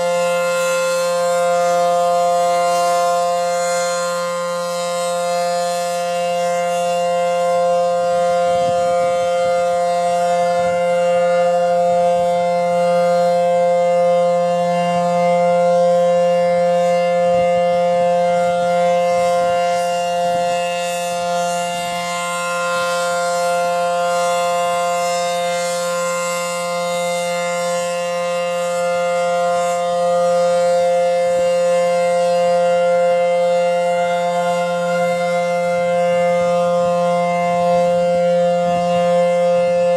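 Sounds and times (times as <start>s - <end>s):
civil defense siren: 0.0s - 39.9s.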